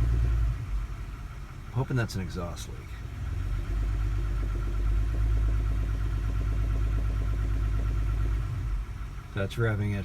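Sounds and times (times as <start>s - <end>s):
car engine revving with knocking: 0.0s - 10.0s.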